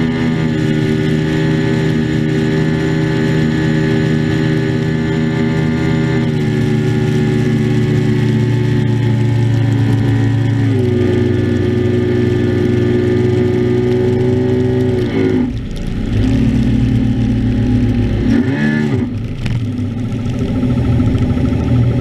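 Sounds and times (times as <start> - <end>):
outboard motor drone: 0.0 - 22.0.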